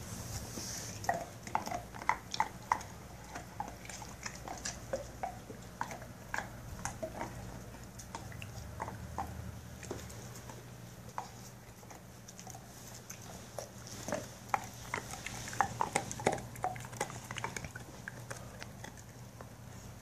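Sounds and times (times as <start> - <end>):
dog crunching bone: 1.0 - 19.7.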